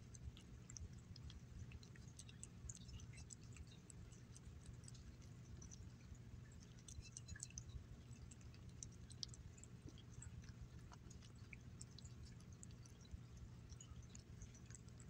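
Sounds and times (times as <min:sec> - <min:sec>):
cat chewing and licking: 0:00.0 - 0:15.0.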